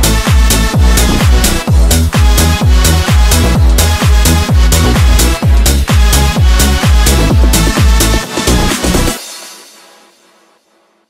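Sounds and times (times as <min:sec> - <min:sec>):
heavy kick drum beat: 0:00.0 - 0:09.5
electronic dance music: 0:00.0 - 0:11.0.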